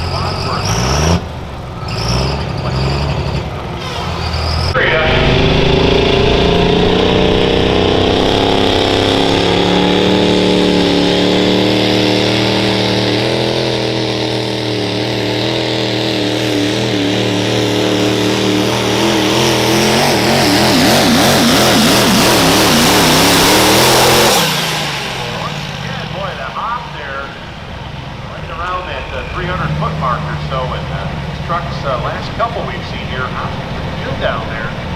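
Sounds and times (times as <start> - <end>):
diesel truck engine at full throttle: 0.0 - 34.9.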